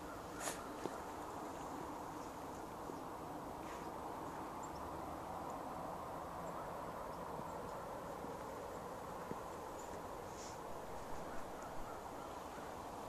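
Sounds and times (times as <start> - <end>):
faint rushing noise: 0.0 - 13.0.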